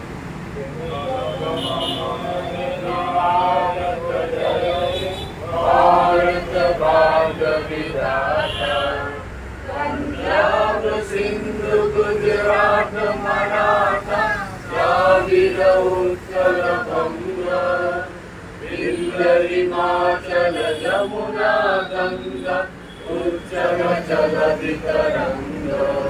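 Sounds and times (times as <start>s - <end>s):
group of people singing: 0.8s - 26.0s.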